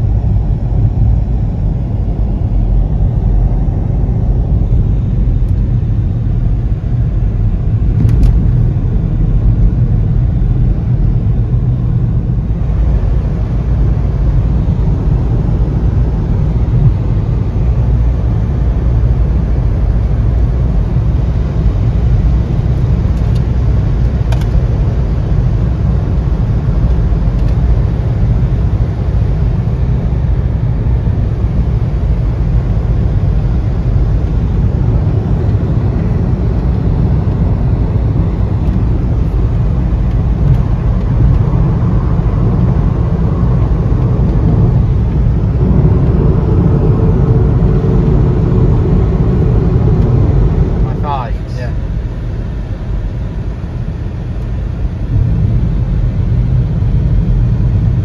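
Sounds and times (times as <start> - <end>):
car road noise rumble: 0.0 - 58.0
steady hum: 0.0 - 58.0.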